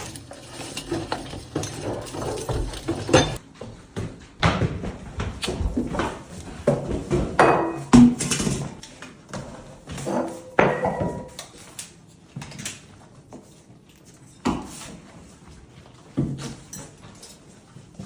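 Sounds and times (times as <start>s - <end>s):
pots pans and utensils clattering: 0.0s - 3.5s, 5.5s - 18.0s.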